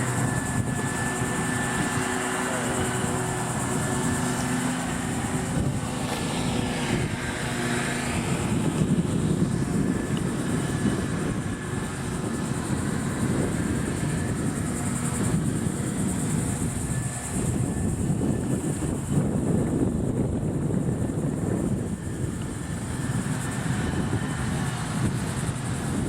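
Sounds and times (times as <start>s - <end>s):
distant engine droning: 0.0s - 26.0s.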